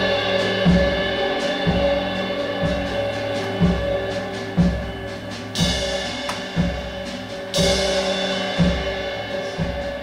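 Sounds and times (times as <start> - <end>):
low drum strikes: 0.0 - 8.0
cymbal wash: 0.0 - 10.0.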